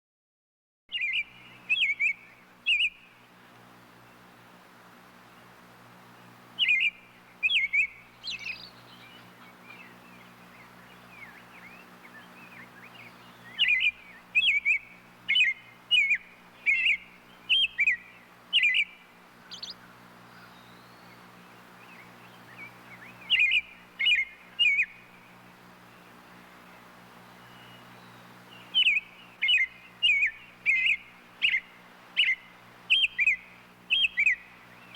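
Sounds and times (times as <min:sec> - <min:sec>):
robin chirping: 0:00.9 - 0:03.5, 0:06.2 - 0:25.2, 0:25.8 - 0:34.9
soft bird twittering: 0:00.9 - 0:04.4, 0:05.2 - 0:34.9.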